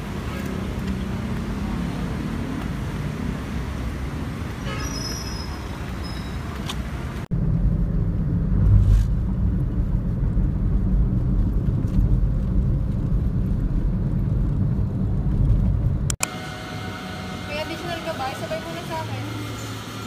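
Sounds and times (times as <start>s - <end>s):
street traffic: 0.0s - 20.0s
vehicle engine rumble and road noise: 0.0s - 20.0s.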